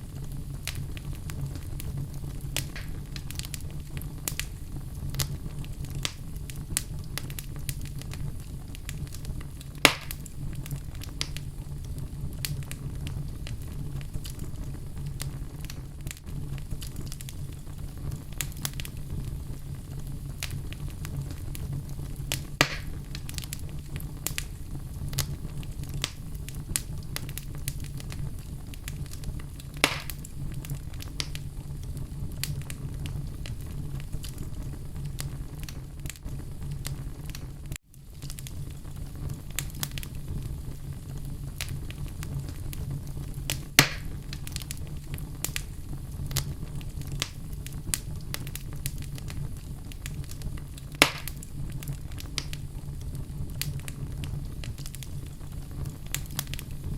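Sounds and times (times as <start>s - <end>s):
loud fire pops: 0.0s - 56.9s
wood fire crackling: 0.0s - 56.9s.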